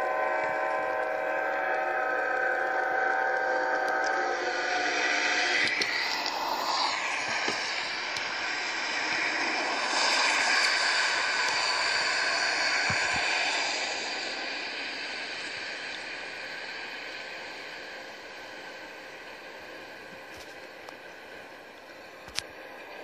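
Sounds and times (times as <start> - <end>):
passing train rushing: 0.0 - 23.0.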